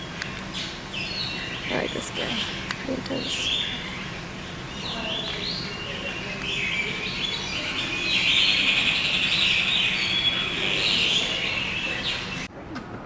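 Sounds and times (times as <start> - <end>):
flock of birds chirping: 0.0 - 12.5.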